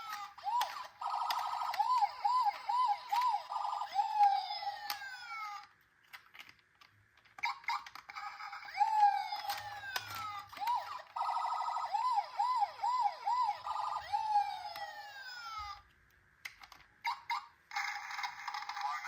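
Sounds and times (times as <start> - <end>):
toy sirens wailing: 0.0 - 5.7, 7.4 - 15.8, 17.1 - 19.0.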